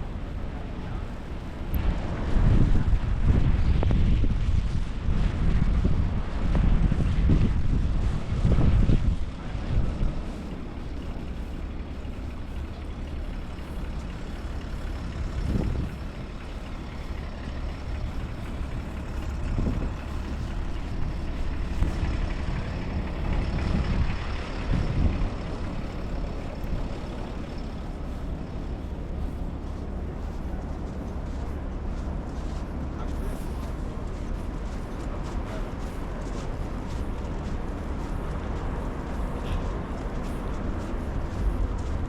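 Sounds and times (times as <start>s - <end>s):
heavy trucks passing: 0.0s - 42.0s.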